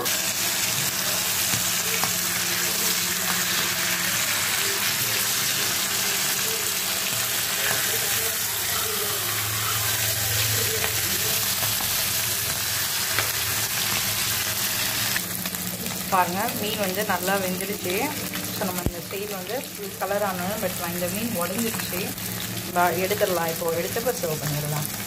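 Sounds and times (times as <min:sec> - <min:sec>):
spatula turning fish: 0:00.0 - 0:23.1
fish sizzling in hot oil: 0:00.0 - 0:25.0.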